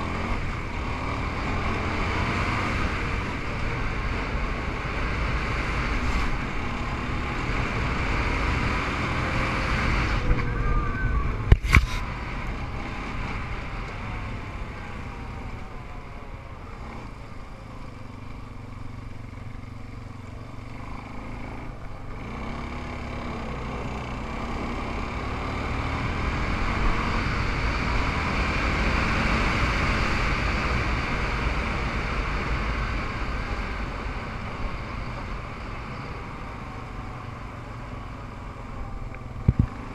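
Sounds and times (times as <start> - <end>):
off-road engines revving: 0.0 - 15.6, 16.7 - 39.9.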